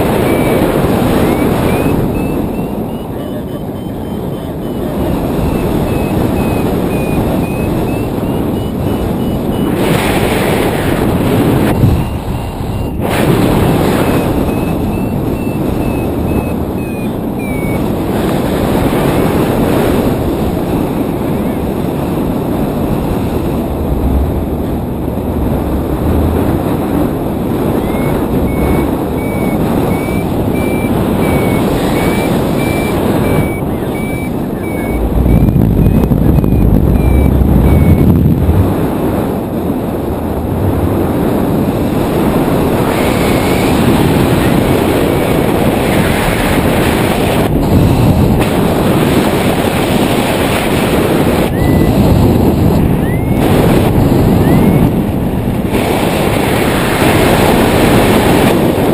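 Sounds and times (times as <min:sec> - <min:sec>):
variometer high-pitched beeps: 0:00.0 - 0:25.0, 0:25.6 - 0:38.9, 0:41.8 - 0:47.4, 0:50.8 - 0:55.0
wind rushing over microphone: 0:00.0 - 0:58.9.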